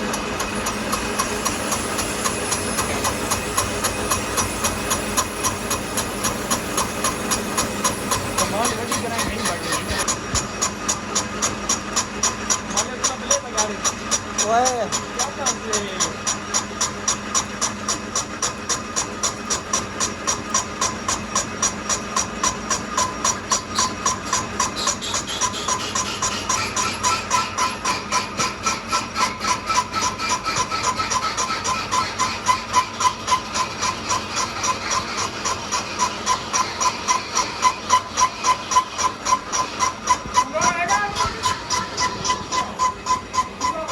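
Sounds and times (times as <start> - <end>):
machine strokes with metallic ringing: 0.0 - 43.9.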